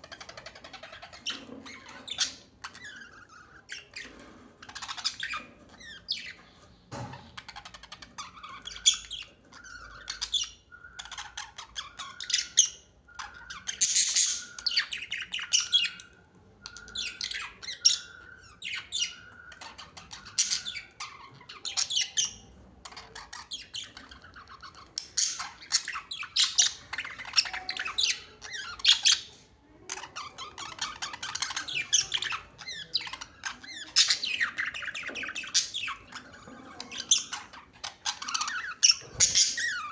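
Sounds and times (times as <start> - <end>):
pet birds chattering and squawking: 0.0 - 39.9.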